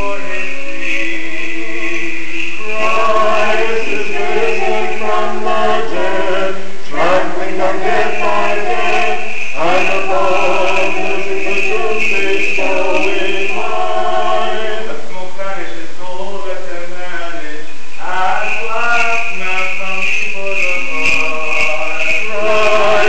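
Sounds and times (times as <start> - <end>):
choir singing a cappella chant: 0.0 - 23.0.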